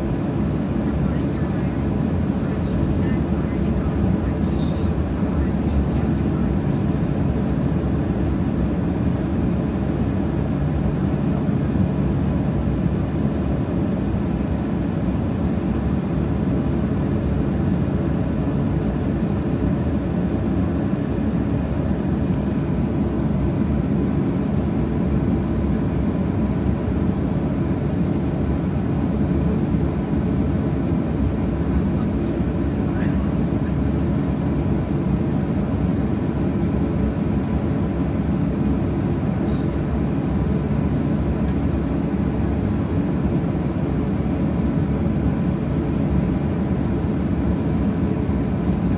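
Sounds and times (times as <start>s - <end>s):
airplane cabin drone: 0.0s - 48.9s.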